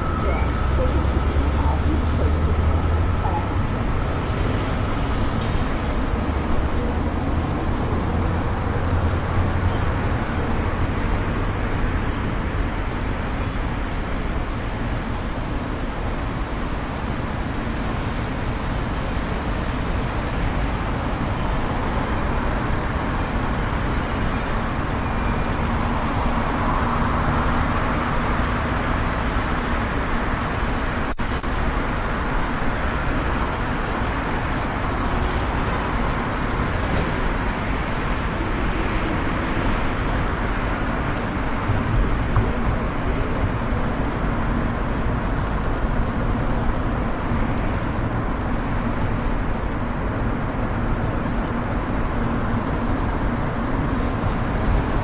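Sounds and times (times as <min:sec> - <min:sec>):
car driving road noise: 0:00.0 - 0:55.0
passing vehicles: 0:00.0 - 0:55.0.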